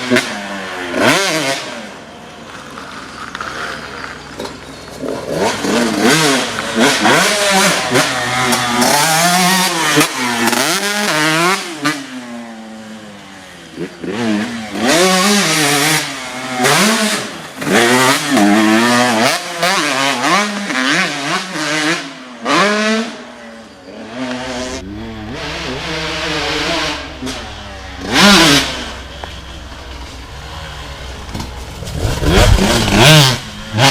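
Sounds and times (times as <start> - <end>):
motocross engine revving: 0.0 - 33.9.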